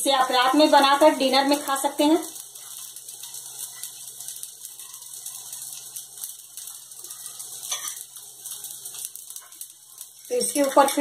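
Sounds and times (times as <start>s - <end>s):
batter sizzling in oil: 0.0s - 11.0s.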